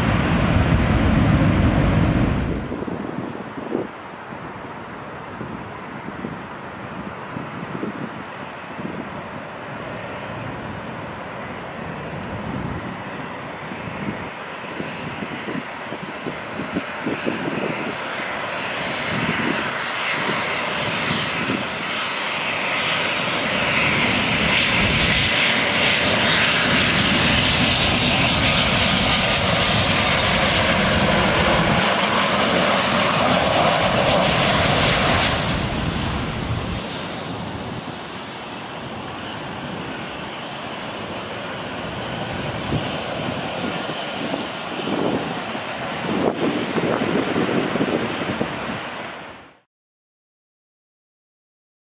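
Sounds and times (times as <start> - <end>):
jet engines roaring: 0.0 - 49.6
quieter jet engine noise: 0.0 - 49.7.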